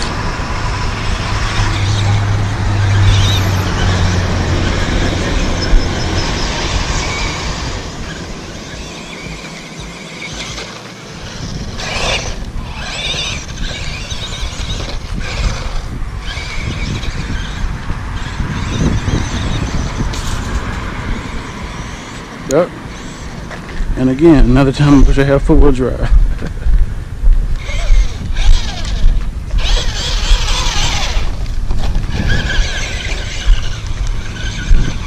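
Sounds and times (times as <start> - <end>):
electric motor whining: 0.0 - 25.3, 27.3 - 35.0
tyres churning sand: 0.0 - 26.1, 27.6 - 35.0.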